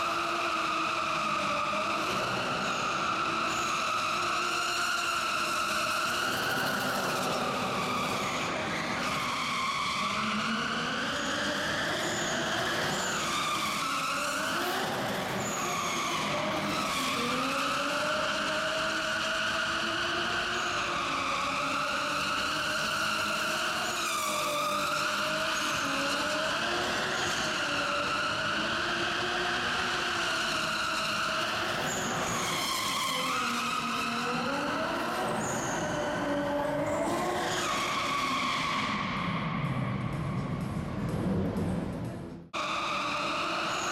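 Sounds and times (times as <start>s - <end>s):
tyres skidding and squealing: 0.0s - 41.1s, 42.5s - 43.9s.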